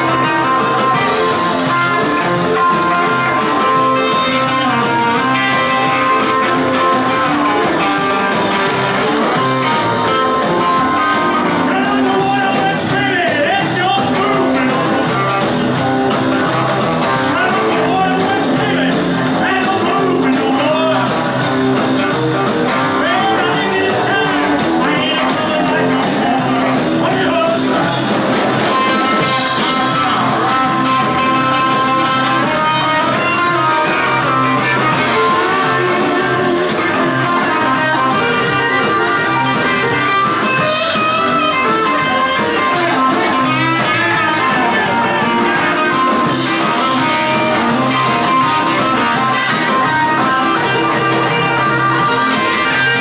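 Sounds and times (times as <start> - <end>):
rock and roll band playing: 0.0 - 53.0.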